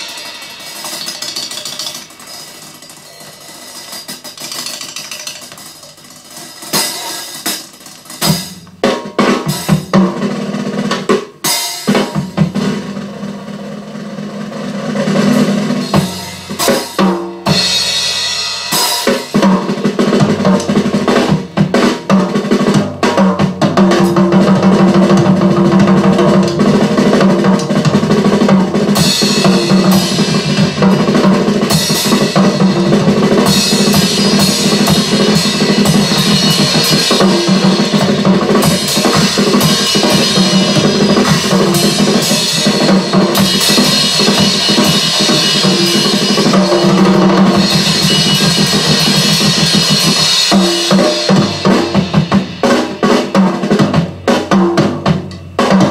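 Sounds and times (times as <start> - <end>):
drum kit playing: 0.0 - 55.9.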